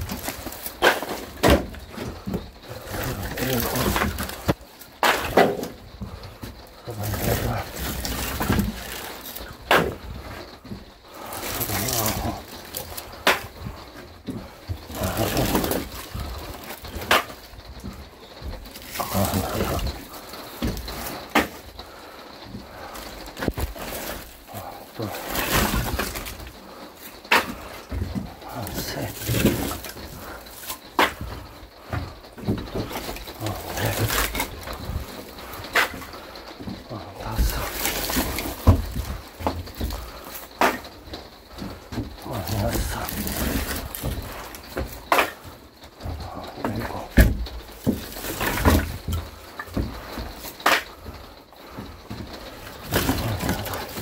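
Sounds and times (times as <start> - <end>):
firewood knocking: 0.0 - 54.0
logs scraping and rustling: 0.0 - 54.0.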